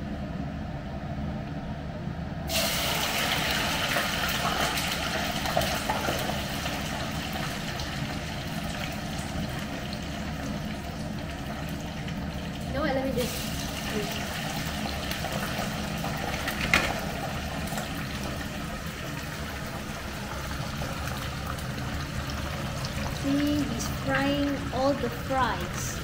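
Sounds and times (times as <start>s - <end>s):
fries sizzling in hot oil: 2.5s - 26.0s.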